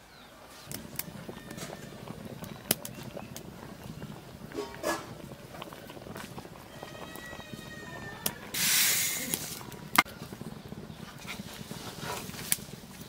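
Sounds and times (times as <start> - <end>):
sugar hissing into liquid: 0.5 - 13.0.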